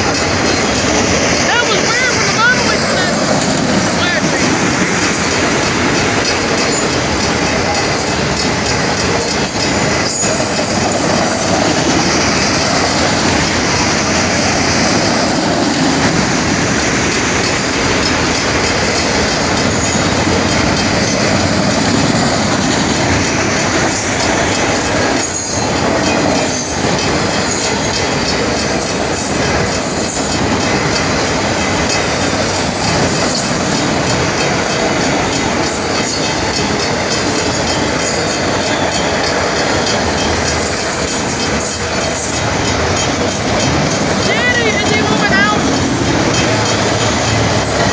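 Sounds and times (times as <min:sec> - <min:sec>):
crossing bells ringing: 0:00.0 - 0:47.9
train wheels clattering on rails: 0:00.0 - 0:47.9.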